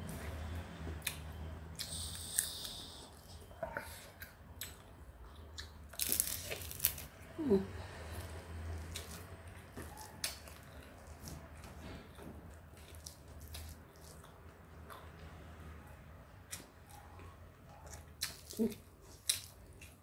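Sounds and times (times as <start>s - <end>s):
chewing: 0.8s - 7.1s, 8.0s - 15.4s, 16.5s - 20.0s.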